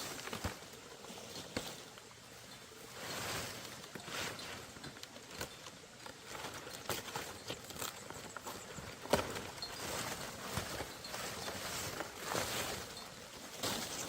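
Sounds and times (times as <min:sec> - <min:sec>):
rustling hissy background: 0:00.0 - 0:14.0.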